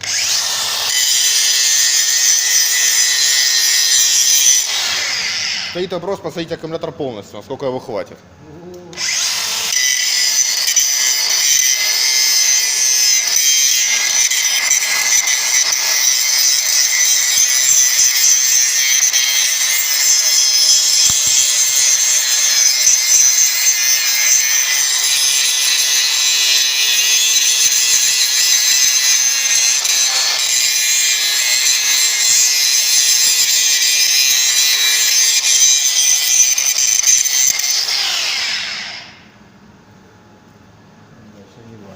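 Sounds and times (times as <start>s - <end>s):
angle grinder grinding steel: 0.0s - 5.8s, 8.9s - 39.2s.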